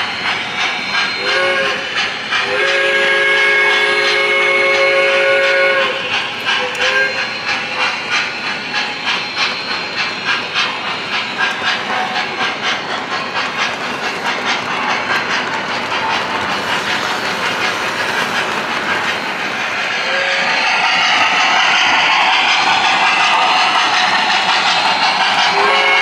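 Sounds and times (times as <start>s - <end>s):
hiss: 0.0s - 26.0s
model train wheels clacking: 0.0s - 26.0s.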